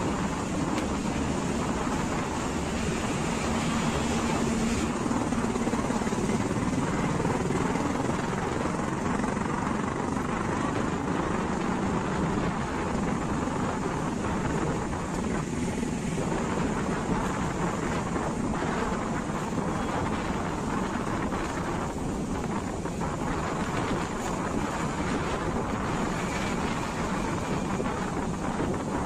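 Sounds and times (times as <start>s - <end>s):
engine hum: 0.0s - 29.0s
road traffic passing: 0.0s - 29.0s.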